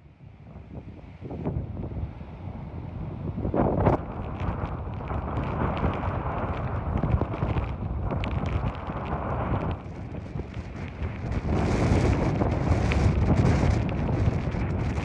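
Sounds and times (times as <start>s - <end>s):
wind buffeting microphone: 0.0s - 15.0s
torrential rain: 1.0s - 15.0s.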